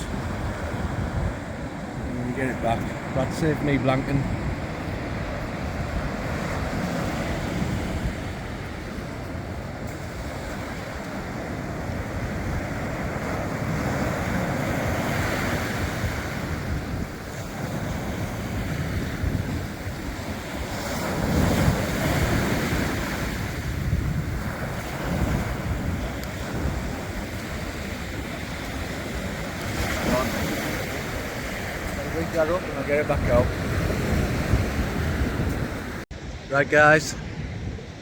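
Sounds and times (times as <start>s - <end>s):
surf breaking on shore: 0.0s - 38.0s
wind buffeting microphone: 0.0s - 38.0s.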